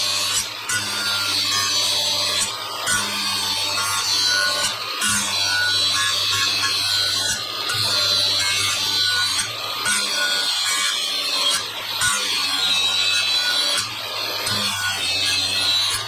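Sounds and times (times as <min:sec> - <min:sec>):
angle grinder grinding steel: 0:00.0 - 0:16.0.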